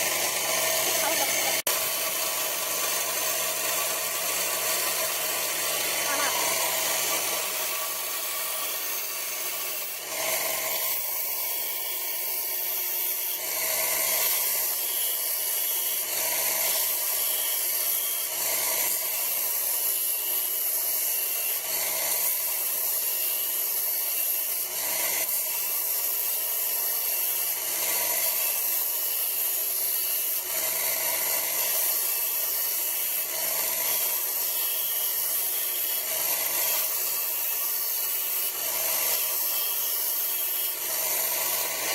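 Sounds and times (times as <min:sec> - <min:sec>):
power grinder grinding steel: 0:00.0 - 0:41.9.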